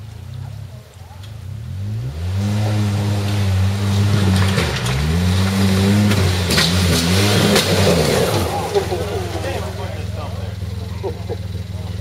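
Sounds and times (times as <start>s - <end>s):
engine revving under load: 0.0s - 12.0s.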